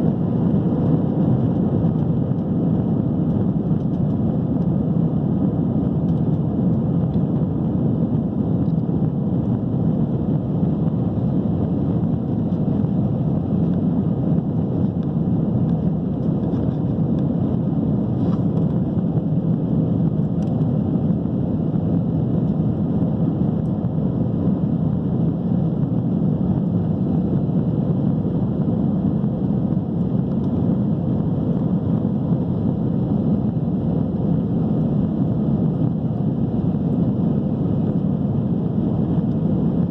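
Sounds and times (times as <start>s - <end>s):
jet engine cabin noise: 0.0s - 39.9s.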